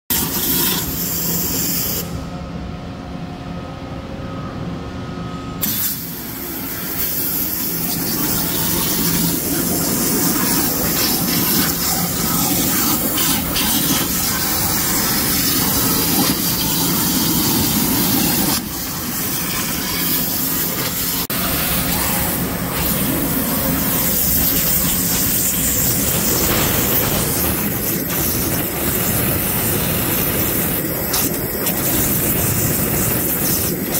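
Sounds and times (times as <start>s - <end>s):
waterjet cutting with loud hiss: 5.6s - 33.9s.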